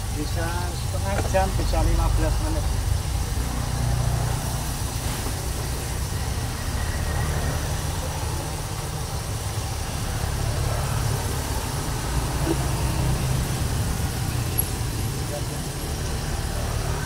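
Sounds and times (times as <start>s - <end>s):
oil sizzling and bubbling: 0.0s - 17.0s.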